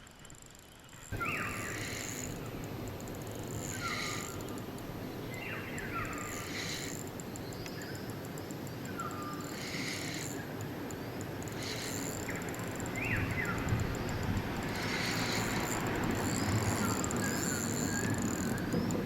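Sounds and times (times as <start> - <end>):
insect pulsing buzz: 0.0 - 19.0.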